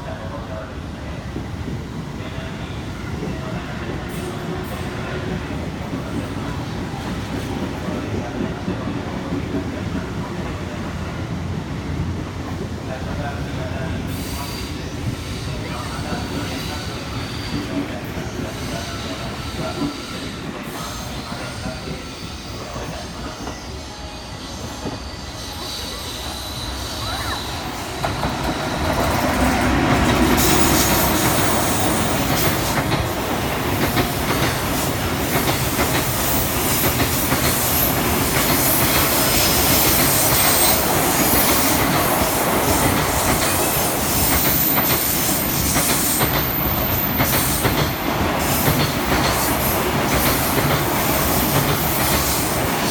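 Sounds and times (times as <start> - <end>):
train rolling on tracks: 0.0 - 52.9.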